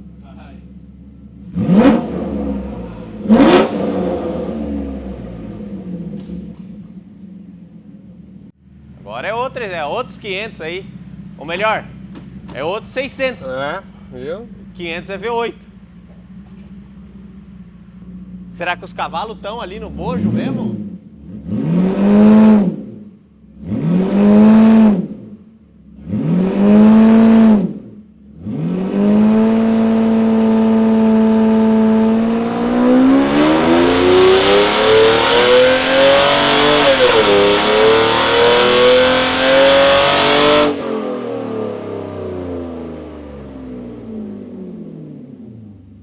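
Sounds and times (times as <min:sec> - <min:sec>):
car engine revving: 0:01.4 - 0:46.0.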